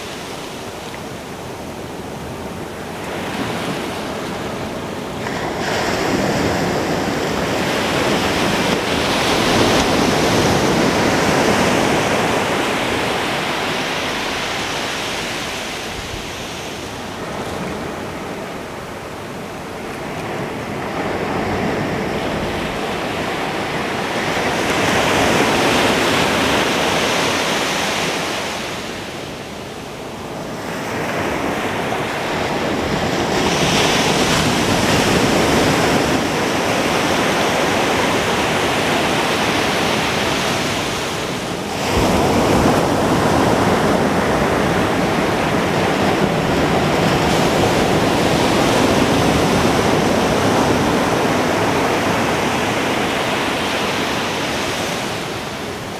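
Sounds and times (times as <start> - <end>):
ocean waves breaking: 0.0 - 55.9
wind buffeting microphone: 0.0 - 55.9.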